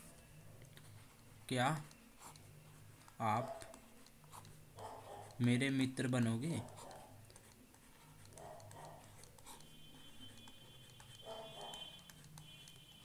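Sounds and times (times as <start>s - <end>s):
faint low room hum: 0.0s - 13.0s
stylus writing on a tablet: 0.0s - 13.0s.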